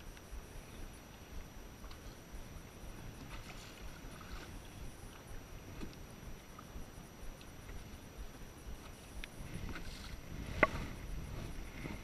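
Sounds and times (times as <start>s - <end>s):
low rumble: 0.0s - 12.0s
water splashing against boat hull: 1.2s - 12.0s.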